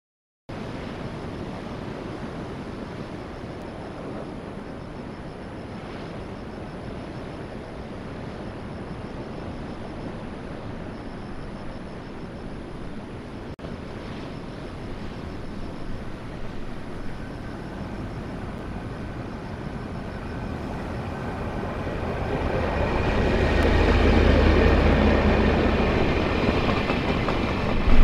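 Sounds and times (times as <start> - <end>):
ocean surf breaking: 0.6 - 28.0.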